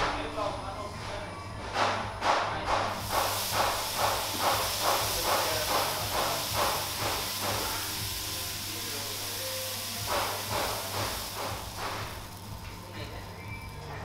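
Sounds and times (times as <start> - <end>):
rhythmic machine knock: 1.6 - 14.0
machine humming and hissing: 2.7 - 14.0.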